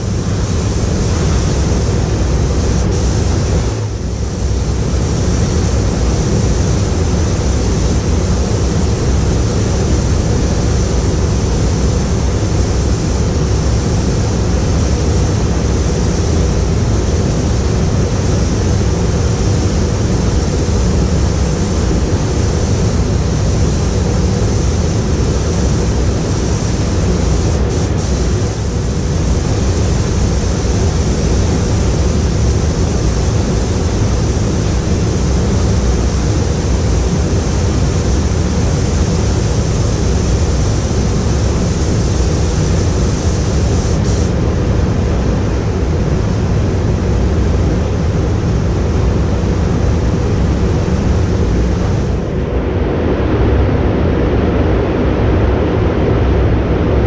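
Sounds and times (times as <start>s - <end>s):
ventilation fans rushing air: 0.0s - 57.0s.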